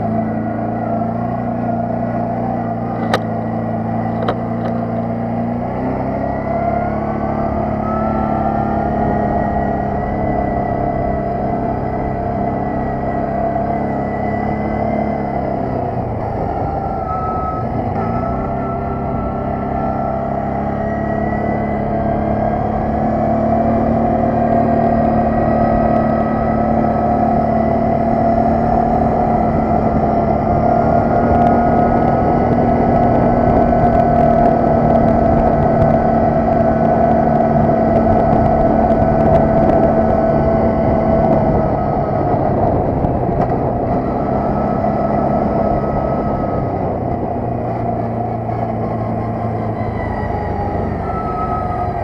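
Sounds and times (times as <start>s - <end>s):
atv engine running: 0.0s - 52.0s.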